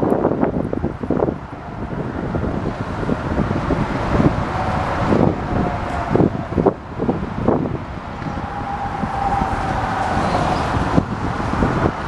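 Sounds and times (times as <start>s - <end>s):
engine rumble: 0.0s - 12.0s
wind buffeting microphone: 0.0s - 12.0s.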